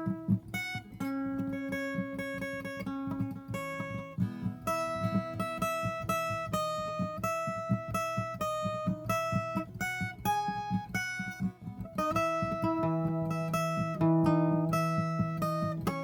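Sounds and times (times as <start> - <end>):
guitar solo melody: 0.0 - 16.0.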